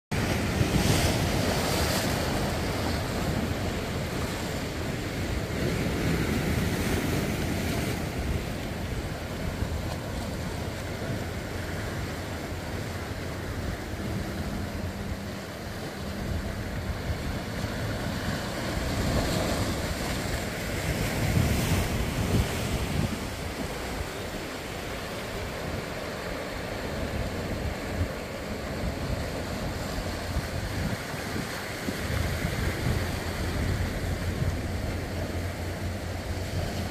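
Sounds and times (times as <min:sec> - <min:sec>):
sea waves washing over boulders: 0:00.1 - 0:36.9
wind buffeting microphone: 0:00.1 - 0:36.9.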